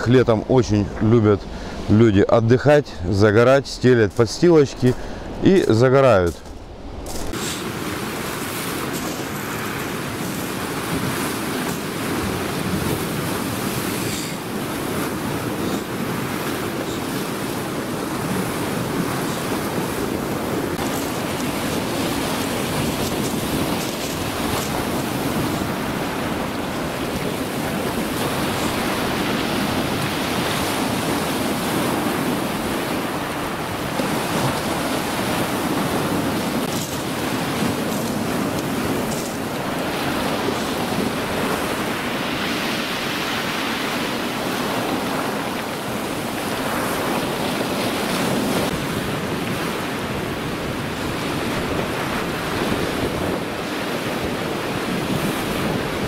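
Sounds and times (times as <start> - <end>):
surf washing against boulders: 0.0 - 56.0.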